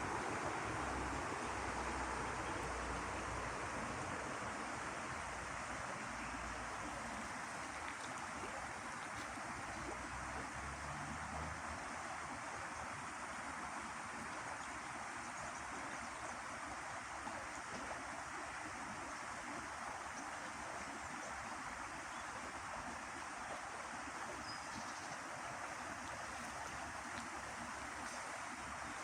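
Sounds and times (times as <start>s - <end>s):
running water rushing: 0.0s - 29.0s.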